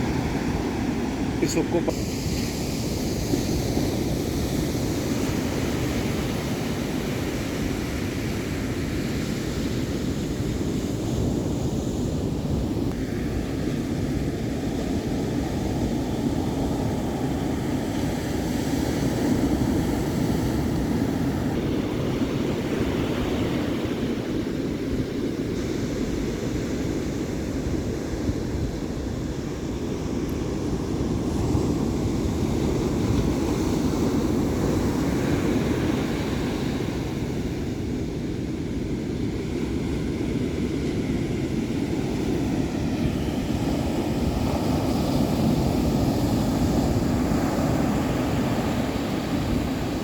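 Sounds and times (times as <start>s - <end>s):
surf roar of breaking waves: 0.0s - 50.0s.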